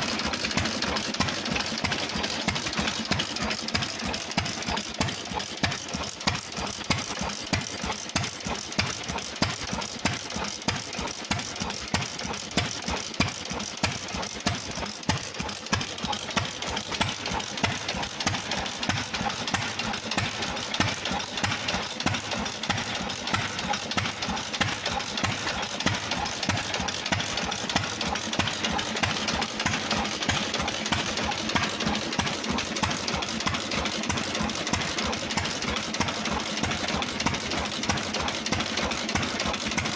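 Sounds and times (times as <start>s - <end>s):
valve gear clatter: 0.0s - 39.9s.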